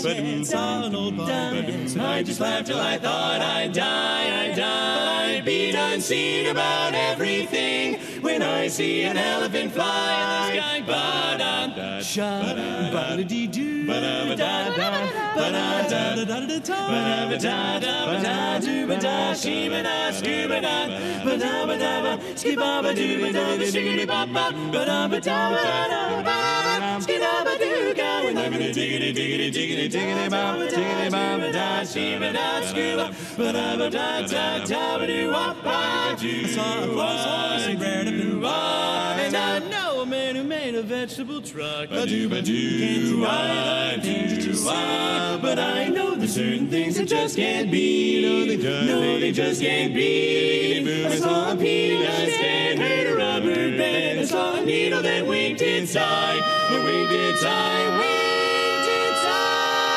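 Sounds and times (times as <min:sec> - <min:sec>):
male quartet singing a cappella: 0:00.0 - 0:59.9.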